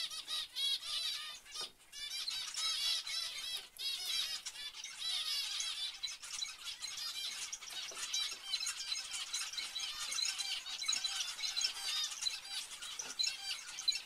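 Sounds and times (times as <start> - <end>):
finches calling: 0.0 - 14.0.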